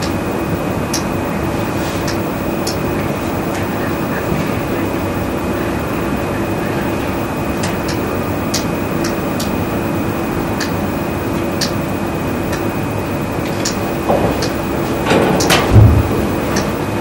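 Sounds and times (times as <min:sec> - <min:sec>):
room noise hum and hiss: 0:00.0 - 0:17.0.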